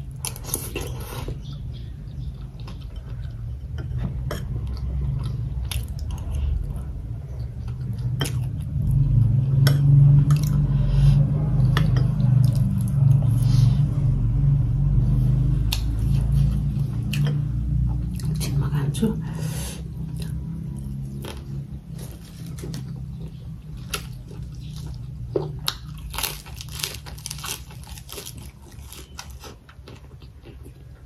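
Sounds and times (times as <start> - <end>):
chewing food: 0.0 - 13.5, 15.3 - 18.6, 19.9 - 31.0.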